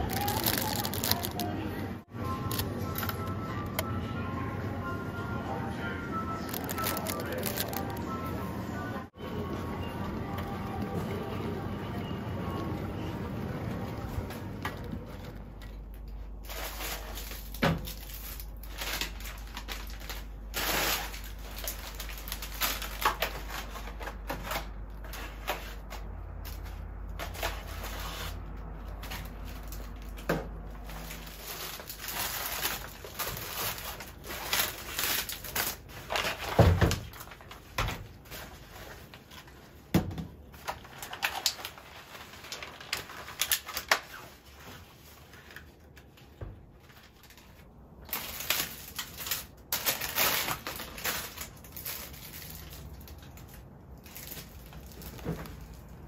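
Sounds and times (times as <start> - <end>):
plastic bag rustling: 0.0 - 3.3, 6.2 - 8.3, 13.8 - 56.0.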